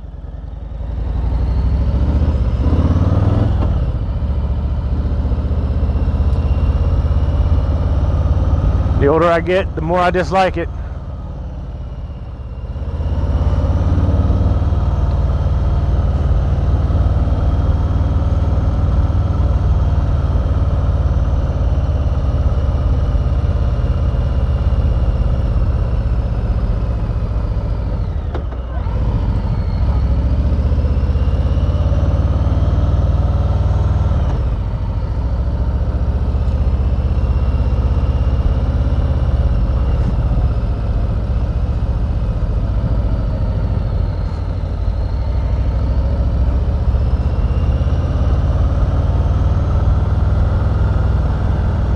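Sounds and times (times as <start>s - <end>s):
motorcycle engine accelerating: 0.0s - 10.0s, 10.7s - 51.9s.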